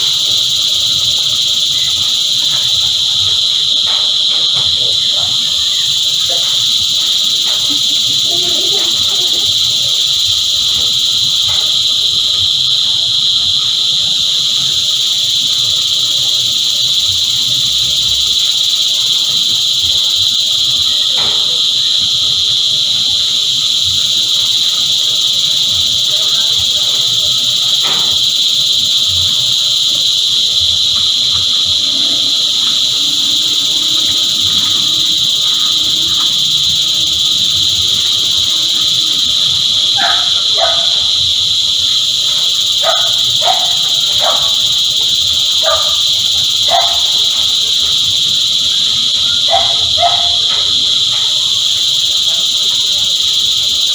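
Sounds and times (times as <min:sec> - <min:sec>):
cicadas singing: 0:00.0 - 0:53.9.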